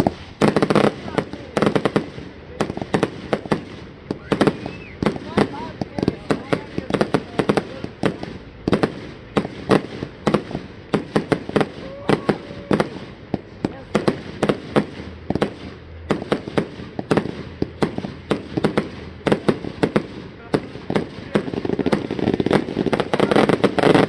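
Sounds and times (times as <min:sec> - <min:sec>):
fireworks banging: 0:00.0 - 0:24.0.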